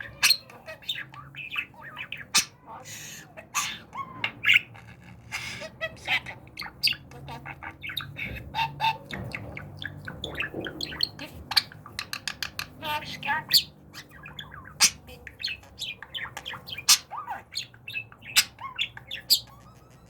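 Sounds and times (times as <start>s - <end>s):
budgerigar chattering: 0.0s - 20.0s.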